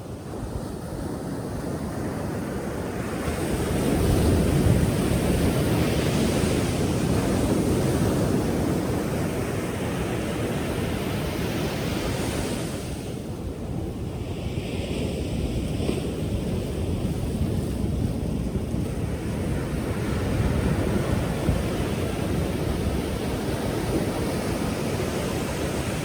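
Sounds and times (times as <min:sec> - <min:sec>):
ocean waves breaking: 0:00.0 - 0:26.0
wind on microphone: 0:00.0 - 0:26.0.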